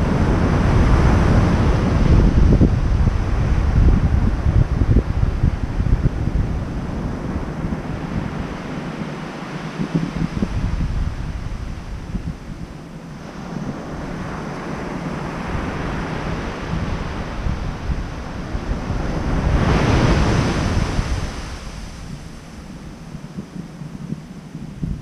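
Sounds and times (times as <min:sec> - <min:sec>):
ocean surf breaking: 0:00.0 - 0:24.9
wind buffeting microphone: 0:00.0 - 0:25.0.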